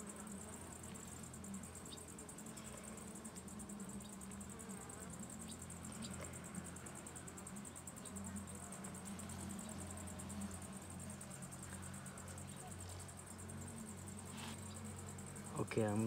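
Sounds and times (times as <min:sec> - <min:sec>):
high pulsing insect trill: 0:00.0 - 0:16.0
honeybees buzzing: 0:00.0 - 0:16.0.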